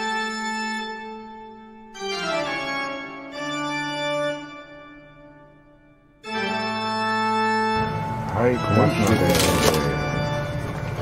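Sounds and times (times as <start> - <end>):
organ-like keyboard chords: 0.0 - 11.0.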